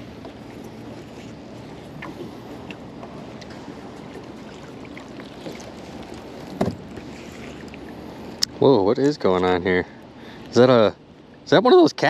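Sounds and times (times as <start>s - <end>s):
water sloshing around boat: 0.0s - 12.0s.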